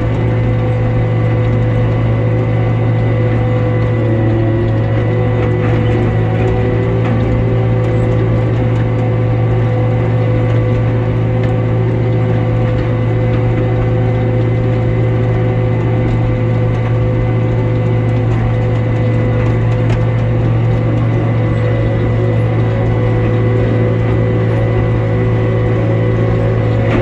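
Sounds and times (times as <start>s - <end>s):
mowing machinery clatter: 0.0s - 27.0s
tractor engine hum: 0.0s - 27.0s.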